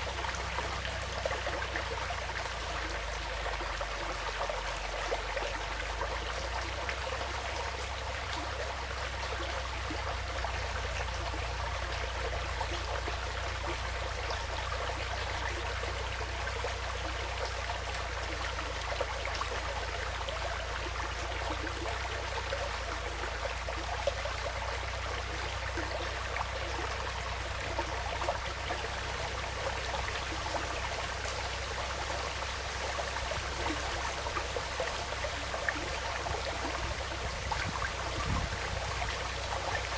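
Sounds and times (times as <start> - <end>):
steady low rumble: 0.0 - 39.9
stream babbling over stones: 0.0 - 39.9.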